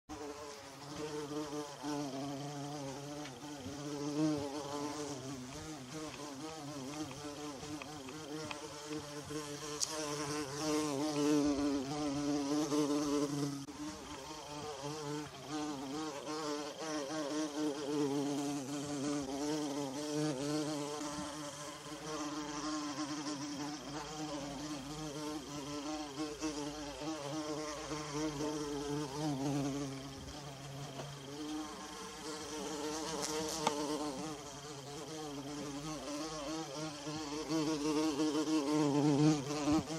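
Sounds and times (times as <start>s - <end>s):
bumblebee buzzing: 0.1s - 39.9s.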